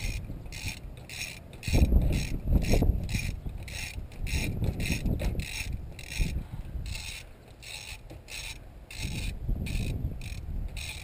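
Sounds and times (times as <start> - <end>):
ratchet pawl clicking: 0.0 - 11.0.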